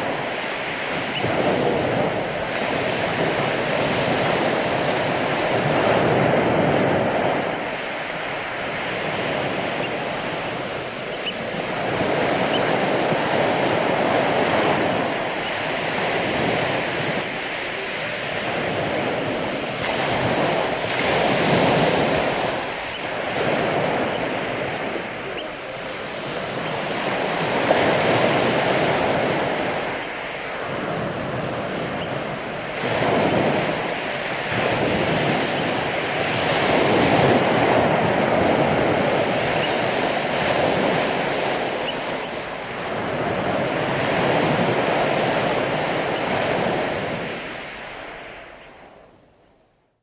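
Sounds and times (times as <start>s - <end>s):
ocean waves breaking on beach: 0.0s - 49.5s.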